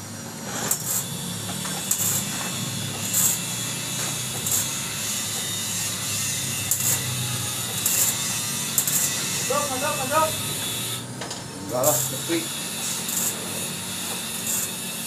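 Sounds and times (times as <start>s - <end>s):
welding arc hiss: 0.0s - 15.0s
welding machine humming: 0.0s - 15.0s.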